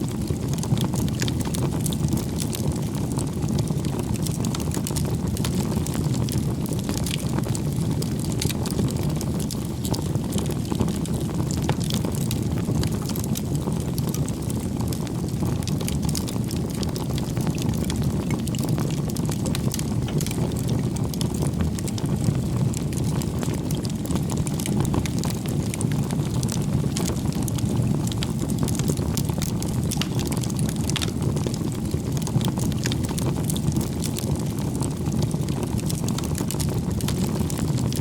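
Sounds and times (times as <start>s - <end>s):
campfire flames rushing: 0.0s - 38.0s
firewood crackling and popping: 0.0s - 38.0s.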